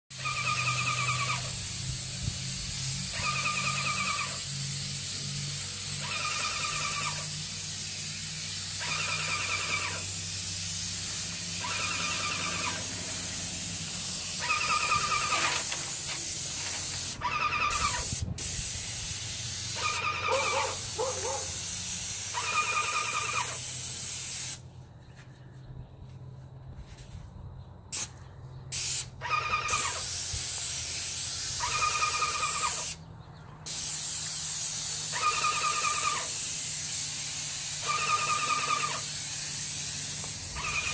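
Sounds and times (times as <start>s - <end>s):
paint sprayer hissing: 0.2s - 24.7s, 27.9s - 40.9s.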